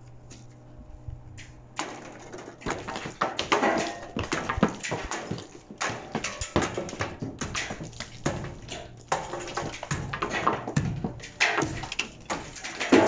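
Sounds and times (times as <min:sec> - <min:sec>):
broken concrete clattering: 0:01.8 - 0:13.0
sledgehammer hitting concrete: 0:01.8 - 0:13.0.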